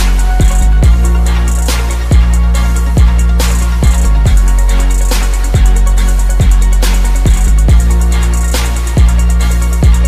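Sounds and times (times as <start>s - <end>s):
rapid ticking hi-hats: 0.0s - 10.0s.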